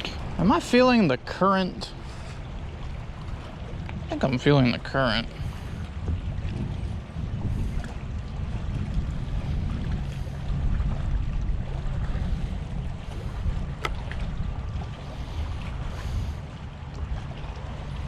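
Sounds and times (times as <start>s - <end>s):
water lapping at shore: 0.0s - 18.0s
wind buffeting microphone: 0.0s - 18.0s.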